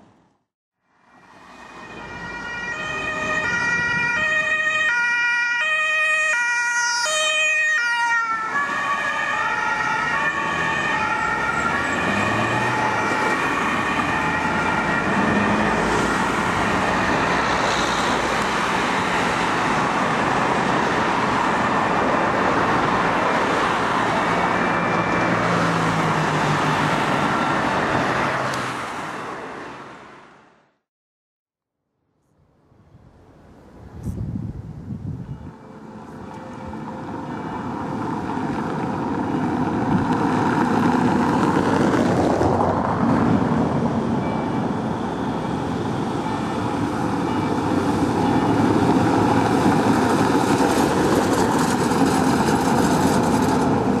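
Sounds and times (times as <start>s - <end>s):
road traffic rush: 0.0s - 30.8s, 32.1s - 54.0s
two-tone ambulance siren: 0.9s - 28.5s, 35.2s - 54.0s.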